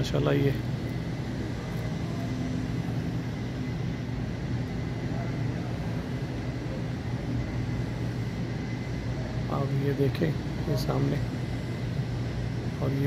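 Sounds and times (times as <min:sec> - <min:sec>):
air conditioning hum: 0:00.0 - 0:13.0
faint high whine: 0:00.0 - 0:13.0.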